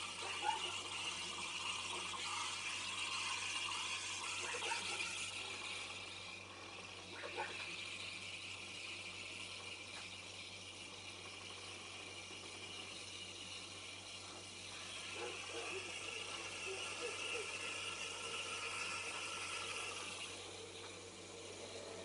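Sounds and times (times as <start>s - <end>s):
milk frothing squeaks: 0.0s - 22.0s
steam wand frothing milk: 0.0s - 22.0s.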